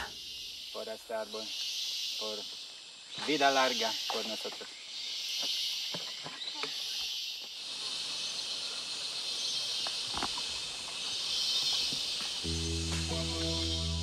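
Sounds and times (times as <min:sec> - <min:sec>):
insect chorus hissing: 0:00.0 - 0:14.0.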